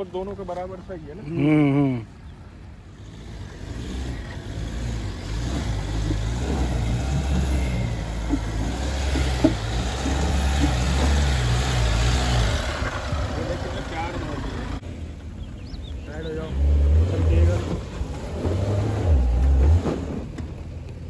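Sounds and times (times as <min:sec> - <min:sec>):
vehicle engine climbing: 0:00.0 - 0:21.0.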